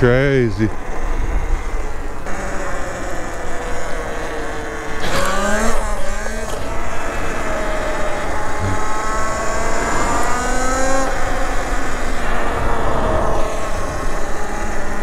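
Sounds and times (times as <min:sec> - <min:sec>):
electric motor whine: 0:00.0 - 0:15.0
wind and road rush: 0:00.0 - 0:15.0.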